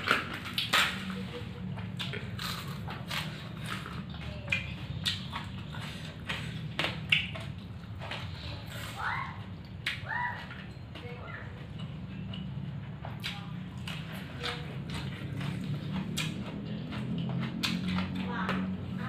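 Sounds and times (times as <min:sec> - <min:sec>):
person chewing crunchy food: 0:00.0 - 0:11.0, 0:11.6 - 0:19.0.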